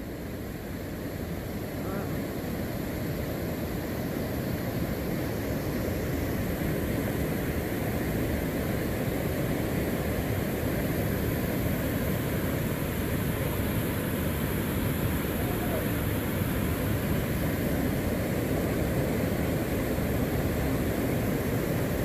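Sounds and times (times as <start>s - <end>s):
river water rushing over rocks: 0.1s - 22.0s.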